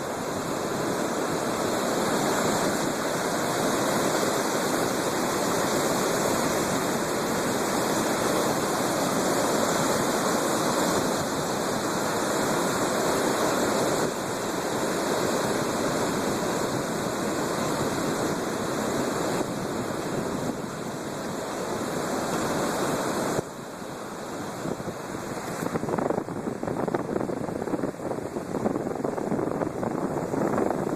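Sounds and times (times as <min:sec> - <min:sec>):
heavy waves breaking: 0:00.0 - 0:30.9.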